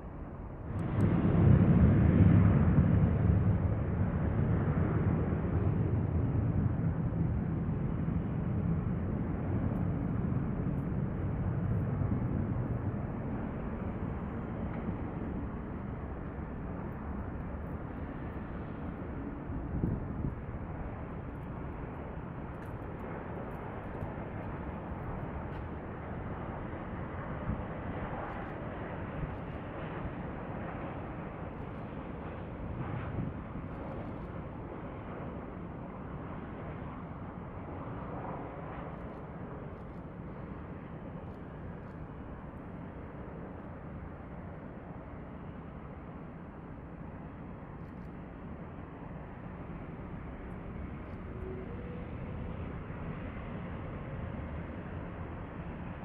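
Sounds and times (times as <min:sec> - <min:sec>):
distant jet engine rumble: 0:00.0 - 0:56.0
low background rumble: 0:00.0 - 0:56.0.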